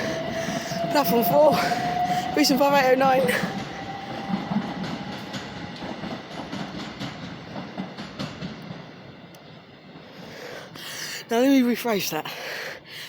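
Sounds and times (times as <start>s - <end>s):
train wheels clicking over rail joints: 0.0s - 11.2s
train rumble: 0.0s - 12.7s.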